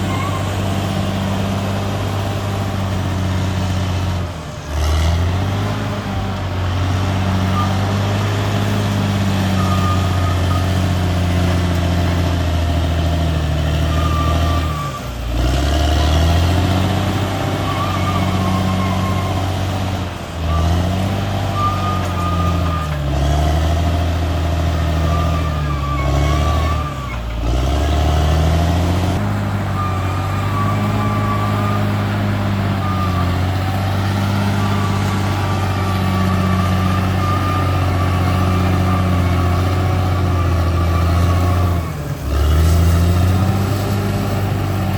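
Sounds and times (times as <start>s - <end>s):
bulldozer diesel engine running hard: 0.0s - 44.9s.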